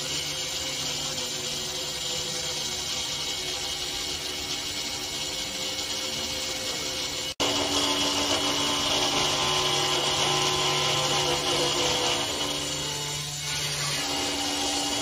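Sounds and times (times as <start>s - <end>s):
router bit cutting plywood: 0.0s - 15.0s.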